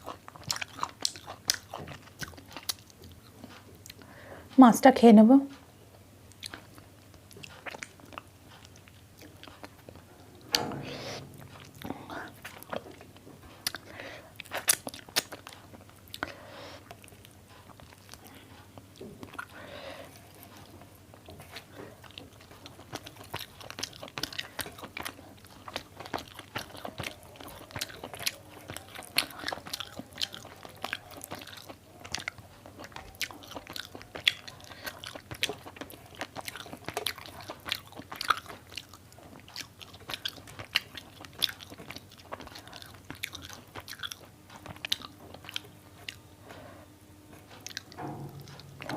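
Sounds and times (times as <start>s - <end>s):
person chewing food: 0.0s - 4.2s, 6.3s - 48.9s.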